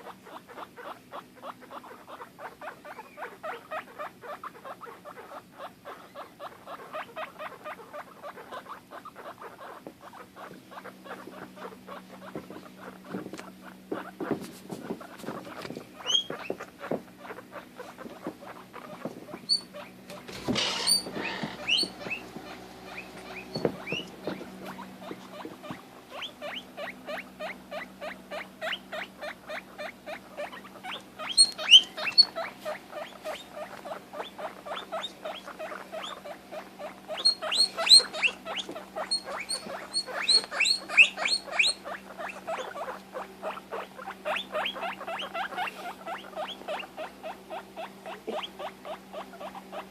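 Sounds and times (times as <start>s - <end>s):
guinea pig high-pitched wheeks: 0.0s - 49.9s
guinea pig squeaking: 0.0s - 49.9s.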